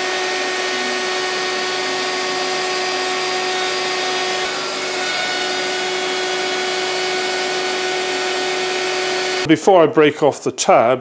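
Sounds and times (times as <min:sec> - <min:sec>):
router milling plywood: 0:00.0 - 0:09.5.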